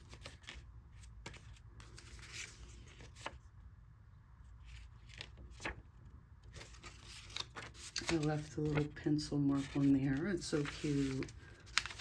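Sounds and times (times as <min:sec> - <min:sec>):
paper rustling: 0:00.0 - 0:03.6, 0:04.6 - 0:12.0.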